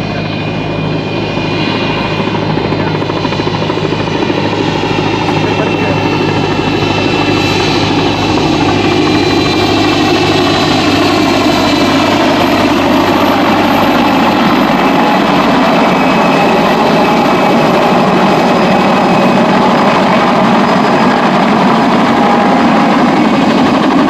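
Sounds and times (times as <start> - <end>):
helicopter engines and rotor: 0.0 - 24.0
high turbine whine: 0.0 - 24.0.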